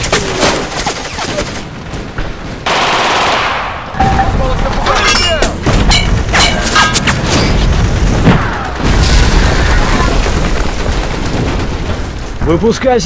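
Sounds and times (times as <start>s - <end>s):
gunshots: 0.0s - 12.5s.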